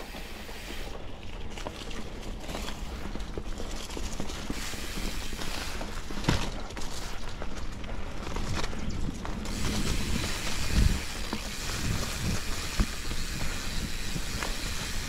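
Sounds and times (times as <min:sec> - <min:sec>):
bike mechanical rattle: 0:00.0 - 0:15.0
bike tyres rolling on dirt: 0:00.0 - 0:15.0.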